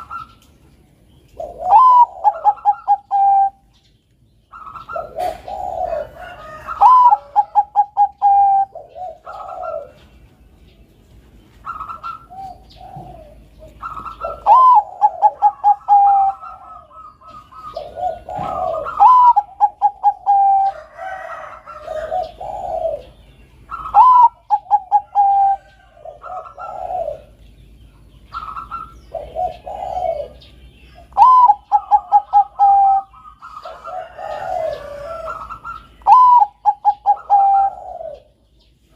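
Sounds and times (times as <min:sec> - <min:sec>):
dove cooing song: 0:00.0 - 0:38.9.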